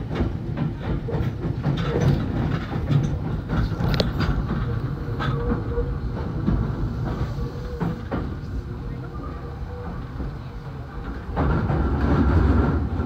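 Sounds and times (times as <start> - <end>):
train rumbling: 0.0 - 13.0
wheels clicking over rail joints: 0.0 - 13.0.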